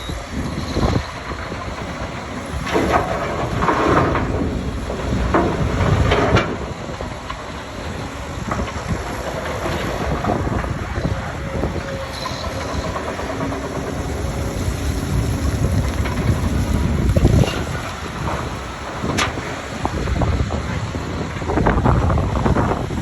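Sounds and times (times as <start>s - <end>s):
excavator engine and hydraulics: 0.0s - 23.0s.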